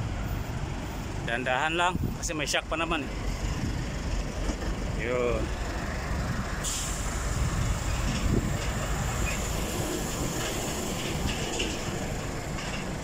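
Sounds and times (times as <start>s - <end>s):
truck engine low rumble: 0.0s - 13.0s.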